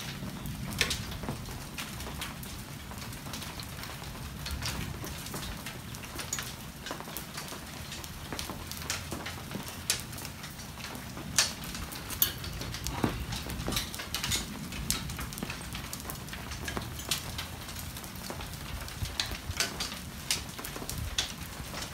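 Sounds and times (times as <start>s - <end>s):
raindrops tapping hard surfaces: 0.0s - 21.9s.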